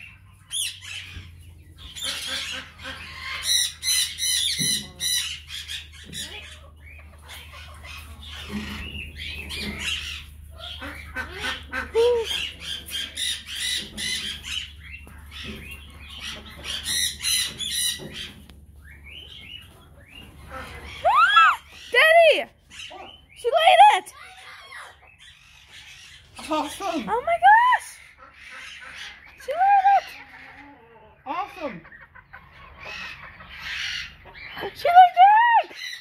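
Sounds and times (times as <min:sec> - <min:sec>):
birds squawking and chirping: 0:00.0 - 0:36.0.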